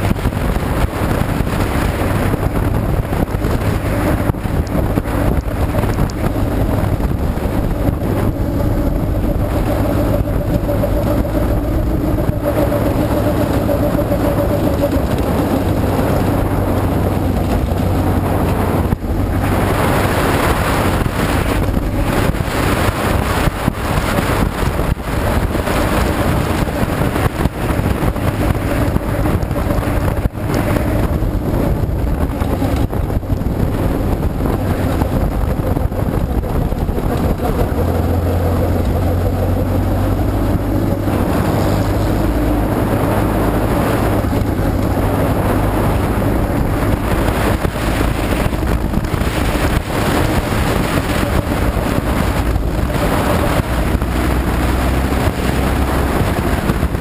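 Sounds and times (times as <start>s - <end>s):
race car engine: 0.0s - 57.0s
wind on microphone: 0.0s - 57.0s.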